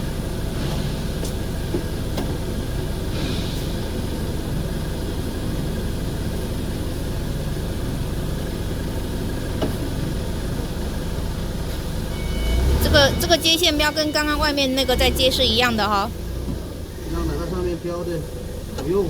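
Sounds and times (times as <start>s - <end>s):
machinery drone: 0.0s - 19.0s.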